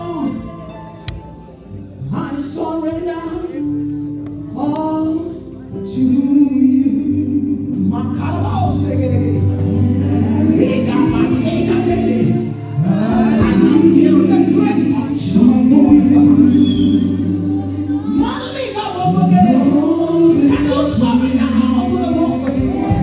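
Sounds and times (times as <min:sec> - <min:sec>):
held accompanying chords: 0:00.0 - 0:23.0
woman singing into microphone: 0:02.0 - 0:03.8, 0:04.6 - 0:23.0
gospel worship singing: 0:04.6 - 0:23.0.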